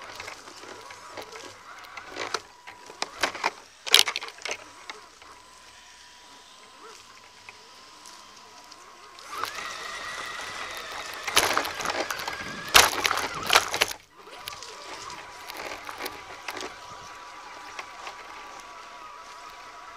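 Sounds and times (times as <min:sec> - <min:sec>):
chassis rattling: 0:00.0 - 0:19.9
electric motor whine: 0:00.0 - 0:19.9.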